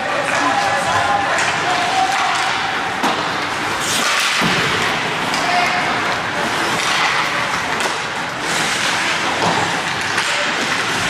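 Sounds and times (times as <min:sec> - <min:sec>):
skate blades scraping ice: 0:00.1 - 0:11.0.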